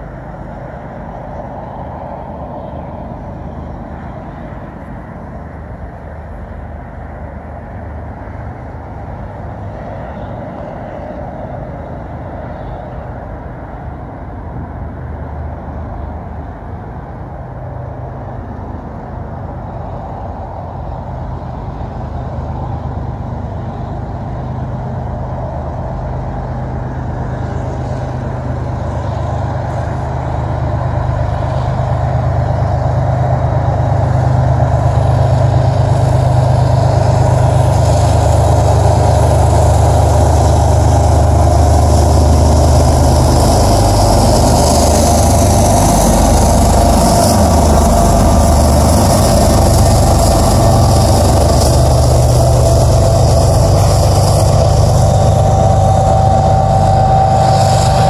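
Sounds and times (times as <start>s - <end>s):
diesel locomotive engines droning: 0.0s - 58.0s
train rattling on rails: 0.0s - 58.0s.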